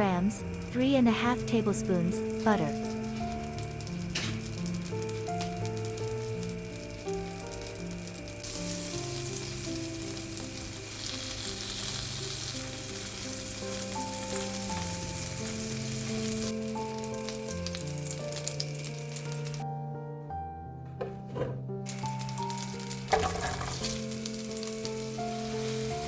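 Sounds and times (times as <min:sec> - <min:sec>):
food sizzling in a pan: 0:00.0 - 0:19.6, 0:21.8 - 0:26.0
soft background music: 0:00.0 - 0:26.0.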